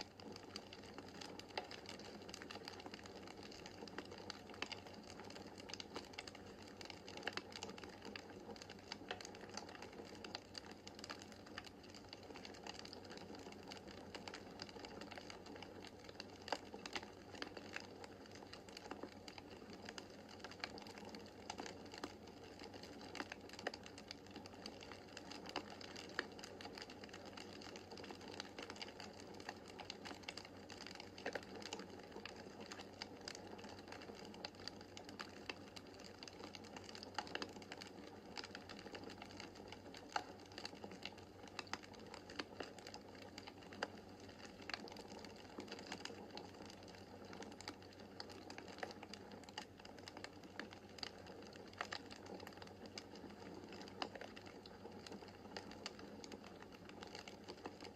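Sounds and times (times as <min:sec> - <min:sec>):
burning logs crackling and popping: 0:00.0 - 0:57.9.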